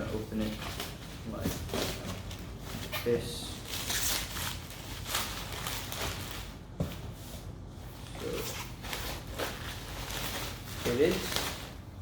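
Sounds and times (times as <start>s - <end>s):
packaging rustling and scraping: 0.1s - 11.9s.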